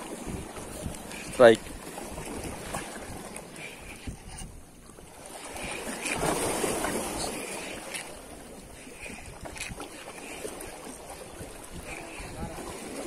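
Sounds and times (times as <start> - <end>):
choppy sea water: 0.0 - 13.0
wind on microphone: 0.0 - 13.0.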